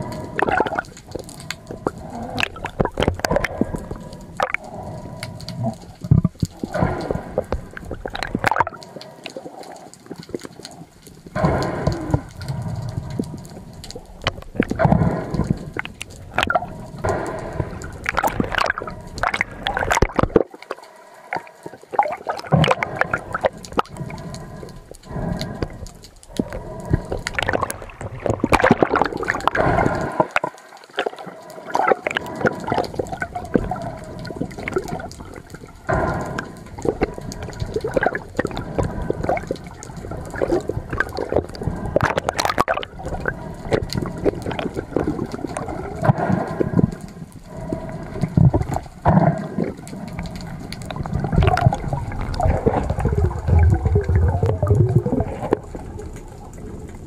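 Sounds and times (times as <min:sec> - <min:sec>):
underwater gurgling and sloshing: 0:00.0 - 0:57.0.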